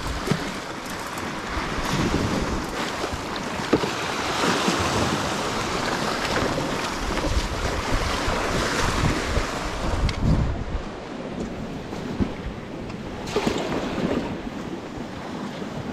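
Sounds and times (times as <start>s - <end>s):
wind gusting across microphone: 0.0s - 3.5s, 4.2s - 15.9s
surf washing against rocks: 0.0s - 15.9s.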